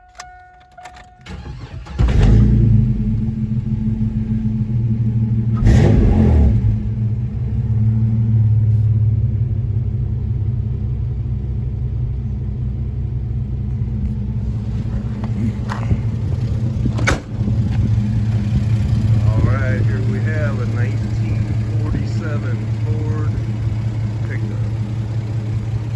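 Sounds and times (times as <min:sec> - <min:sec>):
pickup engine idling: 0:01.2 - 0:25.9.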